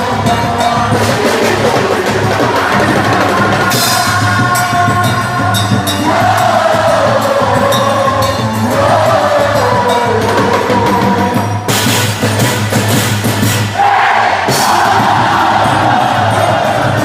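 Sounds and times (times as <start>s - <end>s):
festival music with singing: 0.0s - 17.0s.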